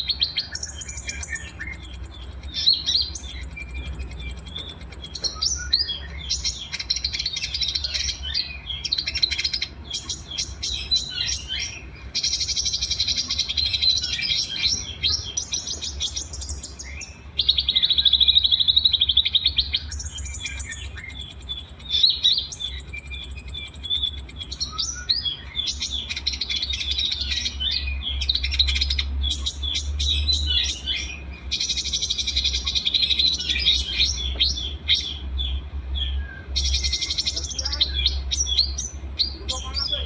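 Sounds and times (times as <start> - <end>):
small songbirds chirping and trilling: 0.0 - 40.0
steady low hum: 0.0 - 40.0.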